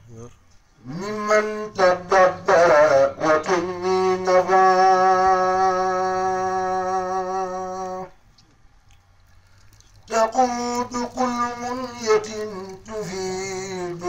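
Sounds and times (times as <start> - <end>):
man chanting: 0.1 - 8.2, 10.1 - 14.0.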